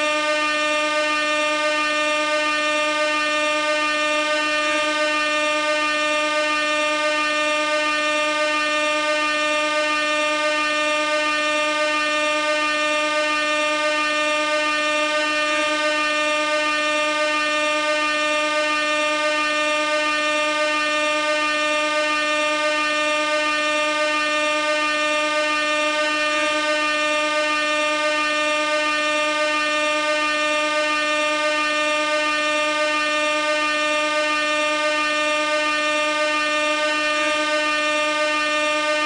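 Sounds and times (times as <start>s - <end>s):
air horn continuous blast: 0.0s - 39.0s.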